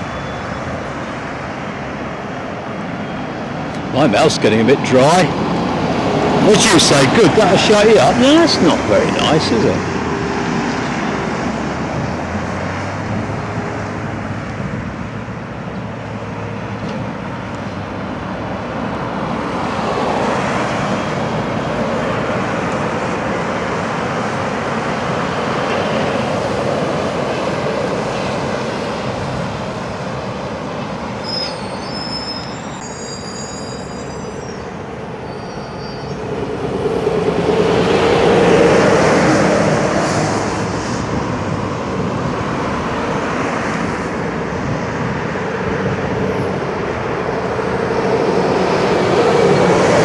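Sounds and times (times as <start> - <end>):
cars and lorries passing: 0.0 - 50.0
lorry with trailer passing: 0.0 - 50.0.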